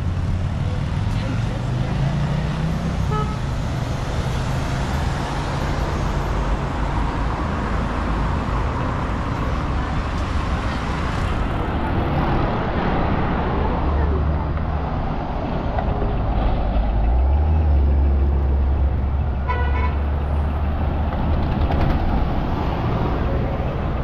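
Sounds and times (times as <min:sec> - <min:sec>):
passing cars road noise: 0:00.0 - 0:24.0.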